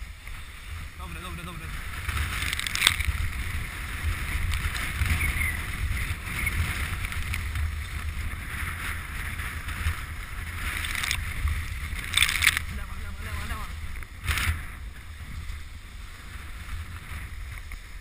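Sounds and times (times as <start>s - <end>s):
wind rumble on microphone: 0.0s - 18.0s
sled runners hissing on snow: 3.0s - 18.0s.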